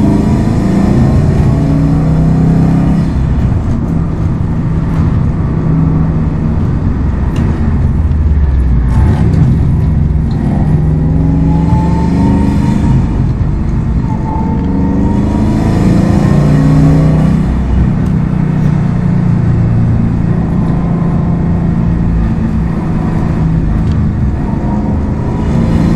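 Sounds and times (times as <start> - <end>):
car engine accelerating: 0.0 - 25.9.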